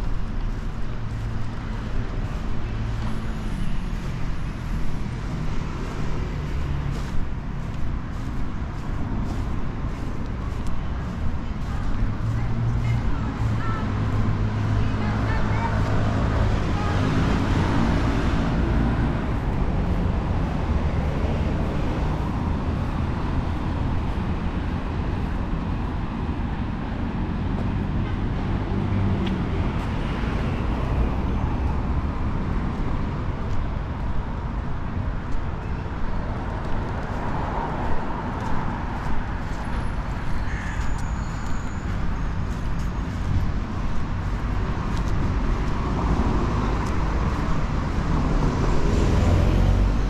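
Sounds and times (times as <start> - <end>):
cars passing: 0.0 - 50.0
traffic rumble: 0.0 - 50.0.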